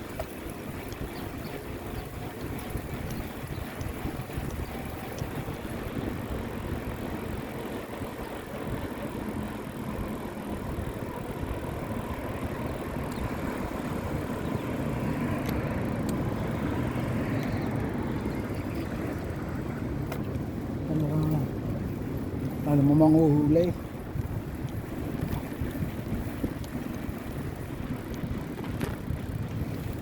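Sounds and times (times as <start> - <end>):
bicycle road rumble: 0.0 - 30.0
wind noise on microphone: 0.0 - 30.0.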